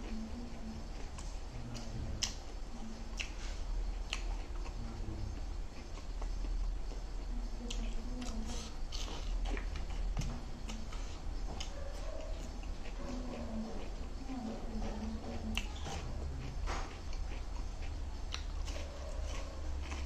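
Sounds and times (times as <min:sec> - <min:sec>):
close chewing and biting: 0:00.0 - 0:20.0
low steady hum: 0:00.0 - 0:20.0.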